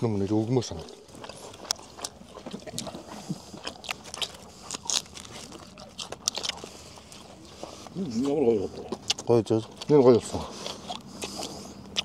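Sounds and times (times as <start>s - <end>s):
person chewing meat: 0.0s - 12.0s
crunching and clicking mouth sounds: 0.3s - 12.0s.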